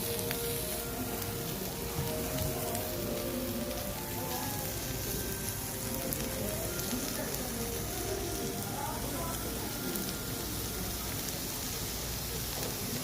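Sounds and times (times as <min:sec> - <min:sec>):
fried rice sizzling in a pan: 0:00.0 - 0:13.0.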